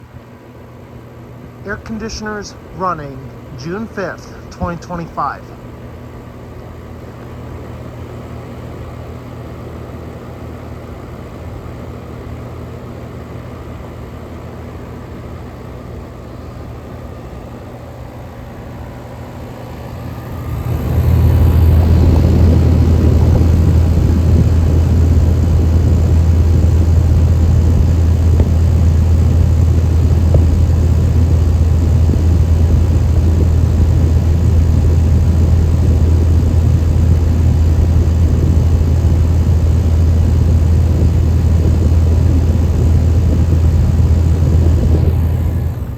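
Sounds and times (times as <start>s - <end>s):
air conditioner unit humming: 0.0s - 45.9s.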